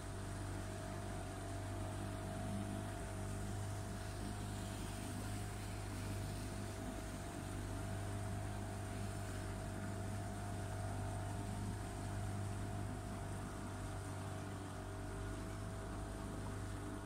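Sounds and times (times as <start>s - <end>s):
boat engine drone: 0.0s - 17.0s
water noise: 0.0s - 17.0s
wind: 0.0s - 17.0s.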